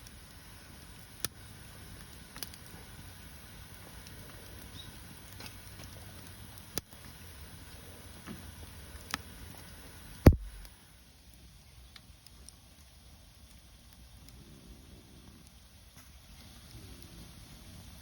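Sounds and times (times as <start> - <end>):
bonfire popping and cracking: 0.0 - 18.0.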